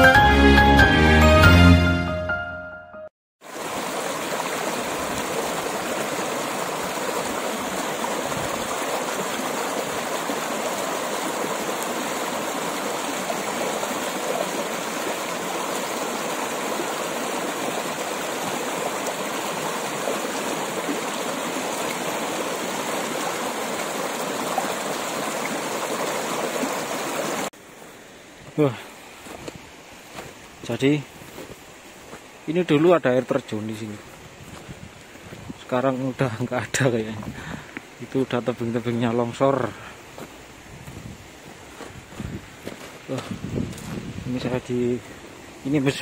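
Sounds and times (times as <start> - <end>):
stream rushing over rocks: 3.4 - 46.0.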